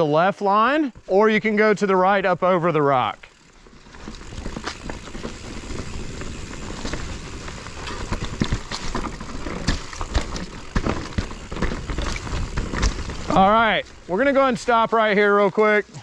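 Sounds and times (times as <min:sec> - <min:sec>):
tyres crunching over rock: 0:01.0 - 0:02.3, 0:02.9 - 0:15.1.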